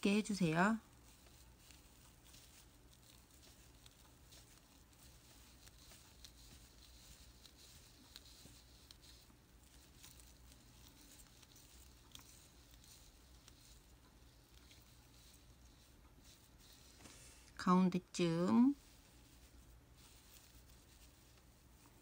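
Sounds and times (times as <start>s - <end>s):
faint yarn rustling: 0.0s - 22.0s.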